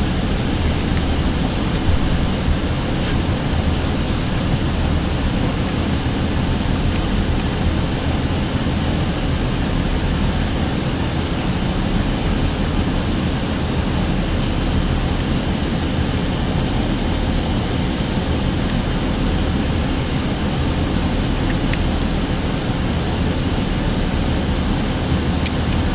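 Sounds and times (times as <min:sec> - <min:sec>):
diesel train engine: 0:00.0 - 0:25.9.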